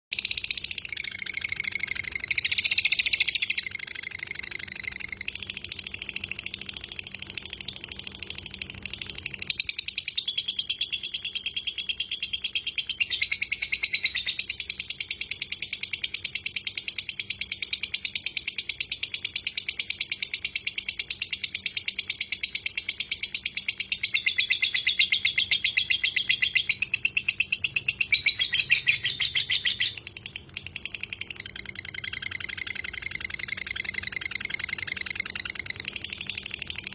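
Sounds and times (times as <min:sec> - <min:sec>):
lovebird chattering trill: 0:00.1 - 0:36.9.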